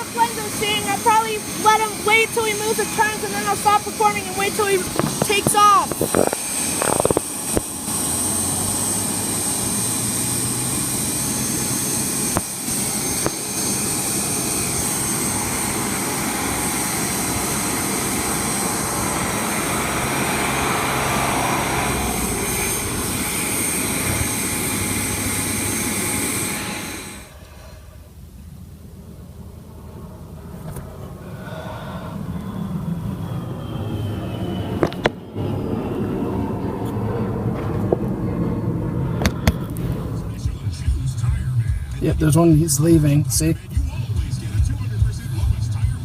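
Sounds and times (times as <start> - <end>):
jet engines whining: 0.0 - 46.0.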